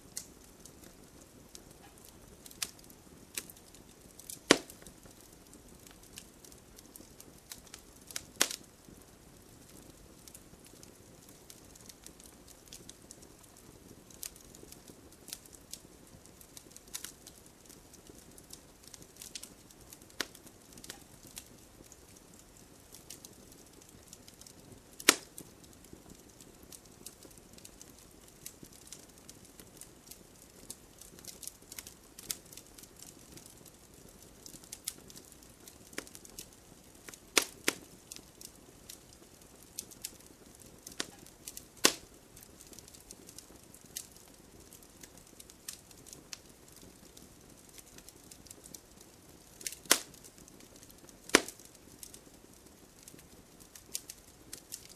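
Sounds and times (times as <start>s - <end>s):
wood fire crackling: 0.0s - 54.9s
loud sharp pops of fire: 0.1s - 54.9s.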